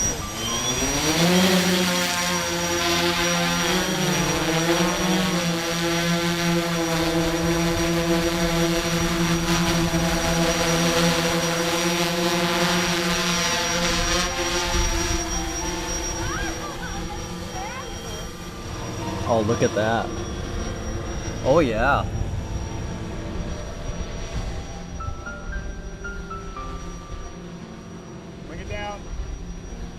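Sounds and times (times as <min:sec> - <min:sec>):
drone rotors humming: 0:00.0 - 0:29.9.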